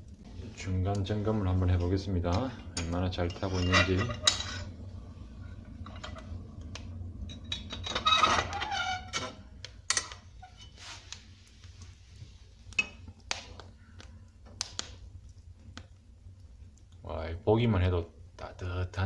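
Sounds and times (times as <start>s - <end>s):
low steady hum: 0.0s - 19.0s
wood fire crackling: 0.0s - 19.0s.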